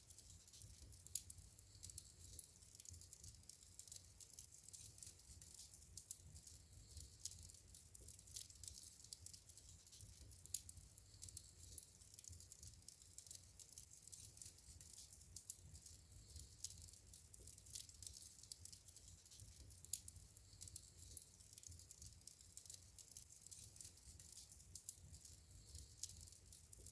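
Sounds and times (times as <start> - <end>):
fire crackling and popping: 0.0 - 26.9.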